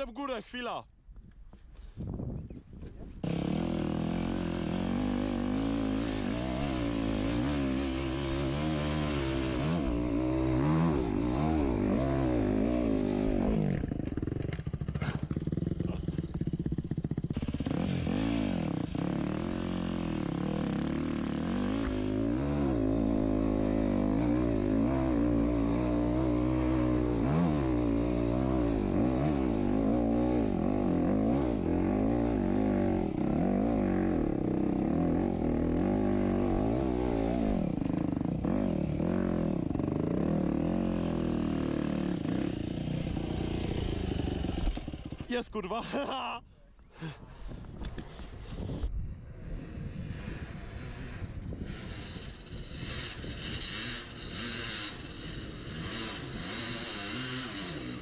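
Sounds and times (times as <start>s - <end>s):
dirt bike engine revving: 3.2s - 45.6s, 49.5s - 58.0s.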